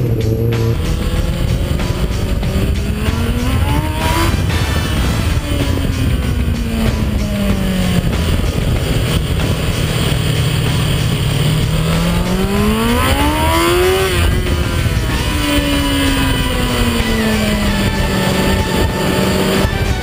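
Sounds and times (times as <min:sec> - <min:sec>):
motorcycle engine revving: 0:00.0 - 0:20.0
wind rush on microphone: 0:00.0 - 0:20.0.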